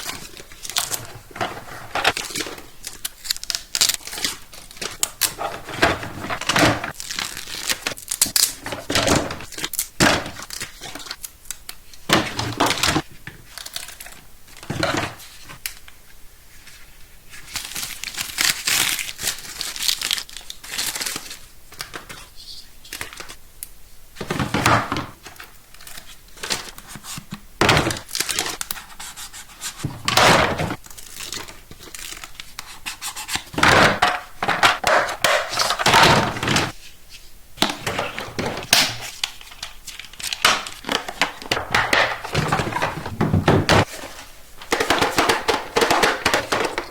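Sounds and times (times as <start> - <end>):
packaging crinkling and tearing: 0.0 - 15.8, 17.3 - 23.4, 25.2 - 27.3, 27.9 - 36.8, 37.6 - 46.9.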